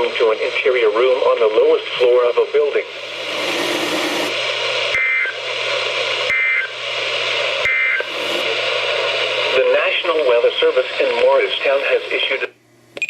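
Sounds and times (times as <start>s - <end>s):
radio static: 0.0s - 12.6s.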